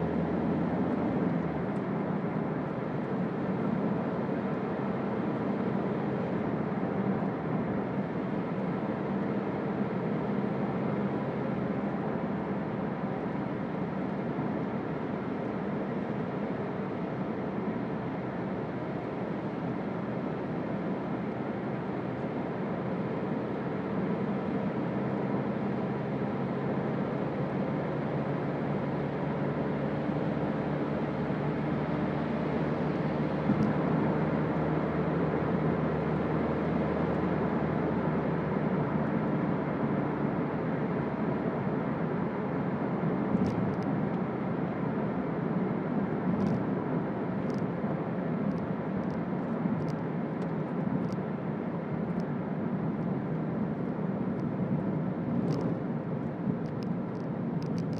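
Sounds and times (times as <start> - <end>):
car engine drone: 0.0 - 57.9
road and tyre noise: 0.0 - 57.9.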